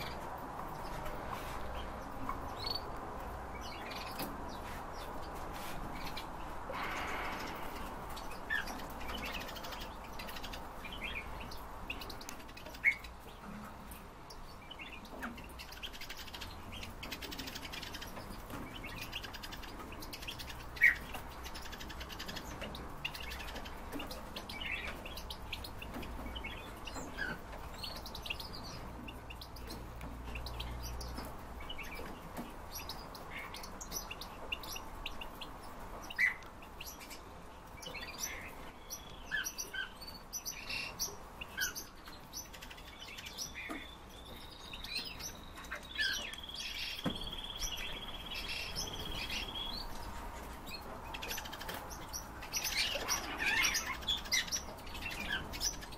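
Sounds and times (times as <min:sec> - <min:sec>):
finches chirping and twittering: 0:00.0 - 0:55.9.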